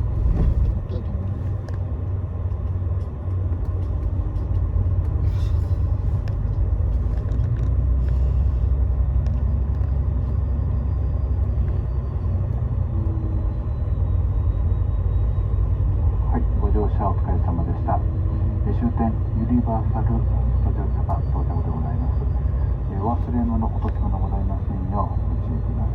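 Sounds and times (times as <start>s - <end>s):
bus engine rumble from inside: 0.0s - 25.9s.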